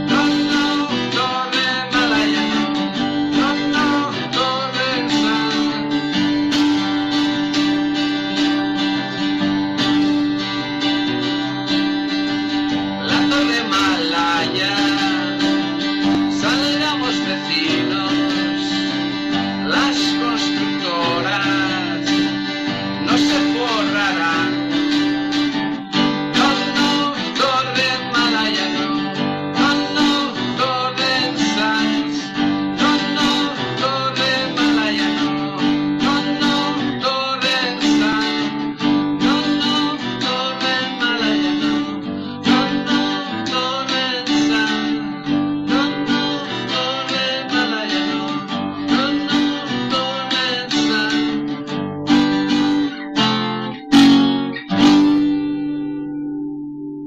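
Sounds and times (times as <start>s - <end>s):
guitar-led music: 0.0s - 57.0s.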